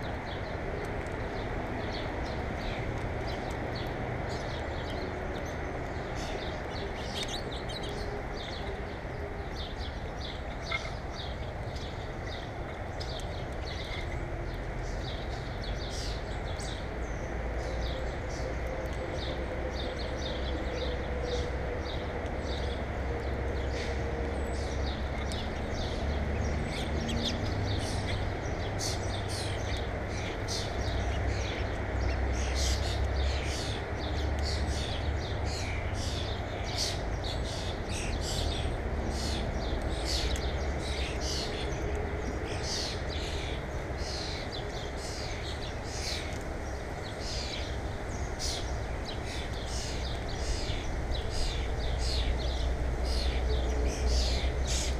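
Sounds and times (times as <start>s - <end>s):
birds chirping: 1.1s - 54.9s.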